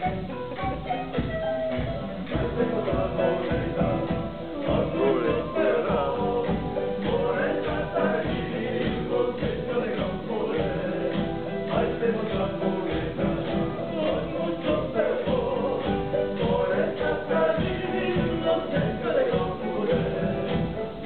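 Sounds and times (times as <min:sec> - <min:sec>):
strummed acoustic guitars: 0:00.0 - 0:21.0
men singing in harmony: 0:02.2 - 0:21.0.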